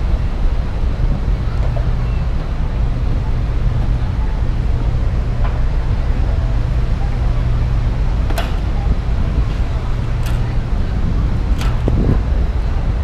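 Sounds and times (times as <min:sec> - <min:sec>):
ship low rumble: 0:00.0 - 0:13.0.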